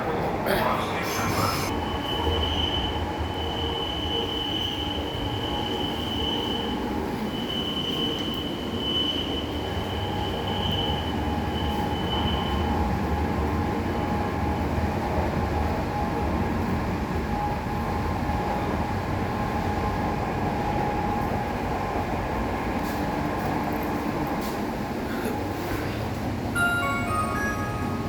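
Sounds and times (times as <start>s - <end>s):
metro train rumble: 0.0s - 28.0s.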